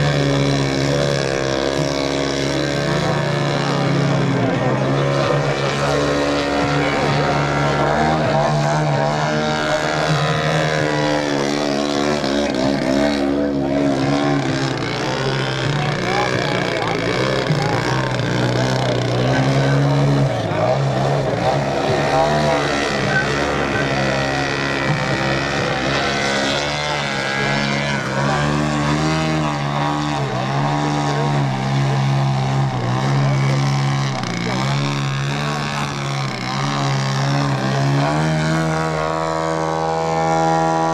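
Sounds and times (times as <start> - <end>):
model plane engine and propeller: 0.0 - 40.9.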